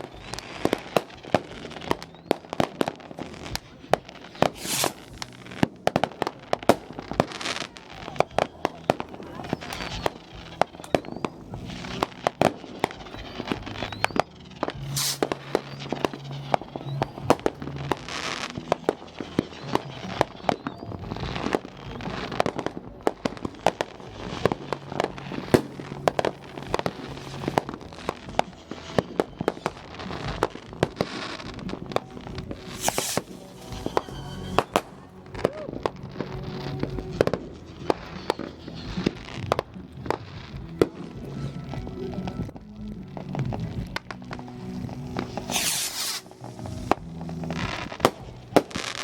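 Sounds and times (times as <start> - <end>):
fireworks bangs and crackles: 0.0 - 49.0
fireworks hissing bursts: 0.0 - 49.0.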